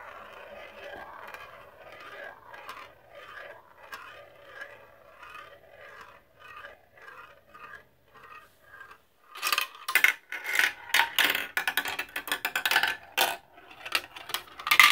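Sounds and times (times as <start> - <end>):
marble rattling down plastic tubes: 0.0 - 14.9
marble rolling in plastic bowl: 0.0 - 14.9.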